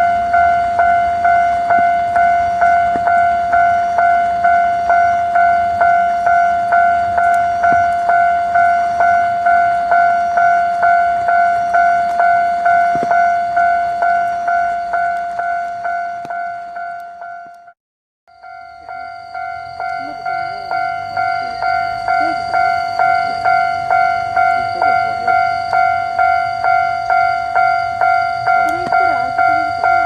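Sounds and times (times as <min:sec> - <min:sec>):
level crossing warning bell ringing: 0:00.0 - 0:17.7, 0:18.3 - 0:30.0.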